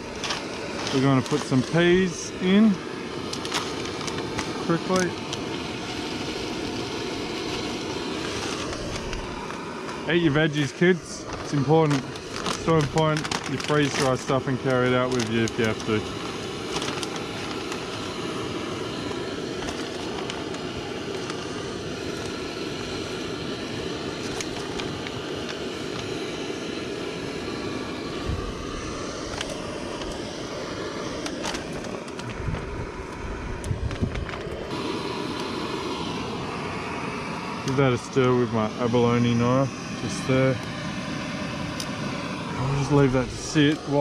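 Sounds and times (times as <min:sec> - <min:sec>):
gas stove burner running: 0:00.0 - 0:44.0.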